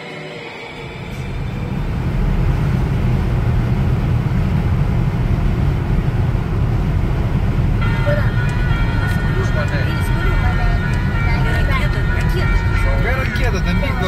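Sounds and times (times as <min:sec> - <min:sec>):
car road and wind rumble: 0:00.8 - 0:14.0.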